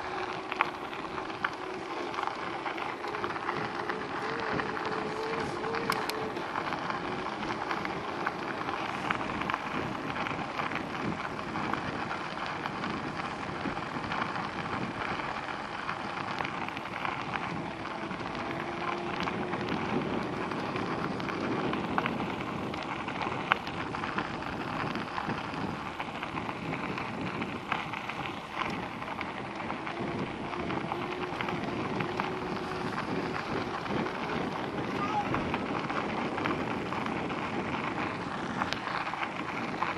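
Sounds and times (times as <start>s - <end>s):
faint motor hum: 0.0s - 12.8s, 13.7s - 27.0s, 27.7s - 39.2s
small clicks and rattles: 0.0s - 39.9s
tyre and wind noise: 0.0s - 39.9s.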